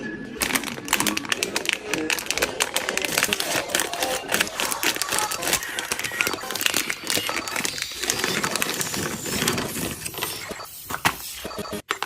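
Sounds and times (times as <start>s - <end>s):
wrappers crinkling: 0.4s - 10.4s.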